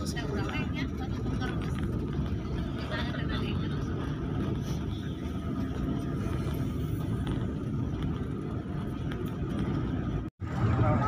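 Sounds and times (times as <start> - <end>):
vehicle driving on paved road: 0.0 - 11.0.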